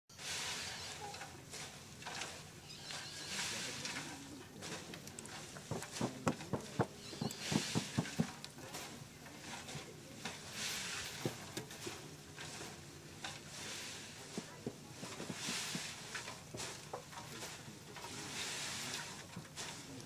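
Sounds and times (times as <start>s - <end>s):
leaves rustling against metal pot: 0.1s - 20.0s.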